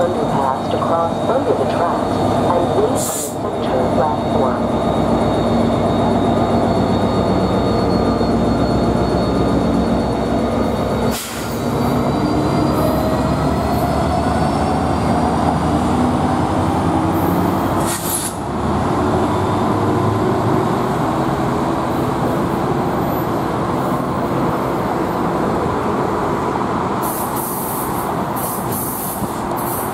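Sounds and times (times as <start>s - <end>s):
diesel train engine rumble: 0.0s - 29.9s
train wheels on rails: 0.0s - 29.9s.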